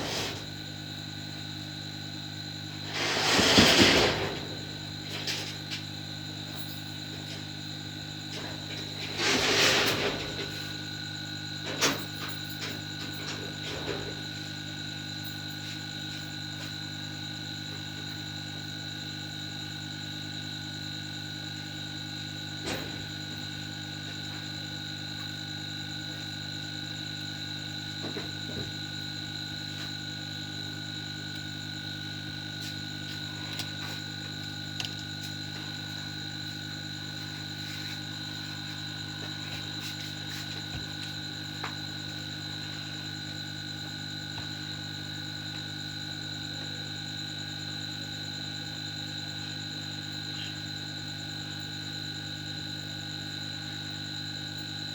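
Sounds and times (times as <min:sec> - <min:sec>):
electrical hum: 0:00.0 - 0:54.9.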